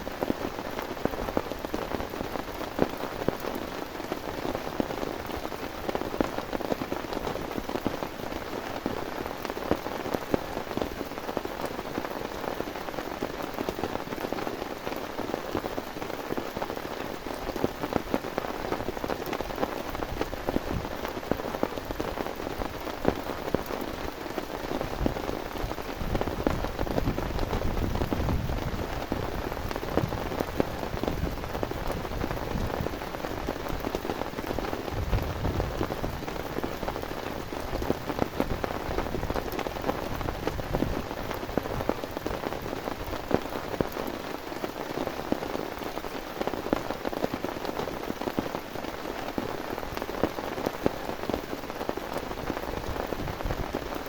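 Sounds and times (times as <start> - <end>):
heavy rain drops hitting: 0.0 - 54.0.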